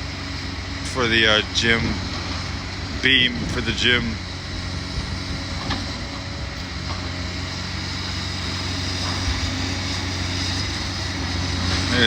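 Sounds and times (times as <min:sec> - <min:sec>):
heavy machinery engine humming: 0:00.0 - 0:12.0.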